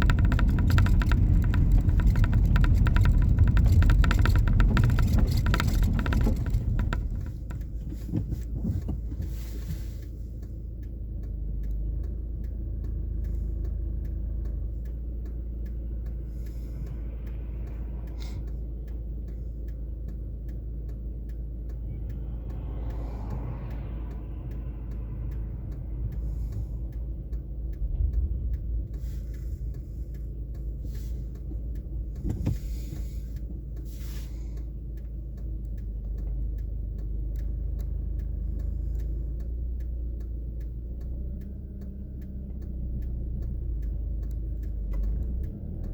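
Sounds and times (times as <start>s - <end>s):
faint regular ticking: 0.0s - 45.9s
steady low rumble: 0.0s - 45.9s.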